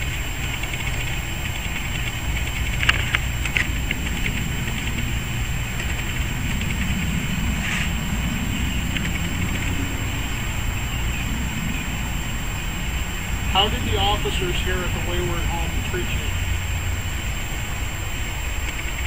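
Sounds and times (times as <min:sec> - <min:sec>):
constant high hiss: 0:00.0 - 0:19.0
low outdoor rumble: 0:00.0 - 0:19.0.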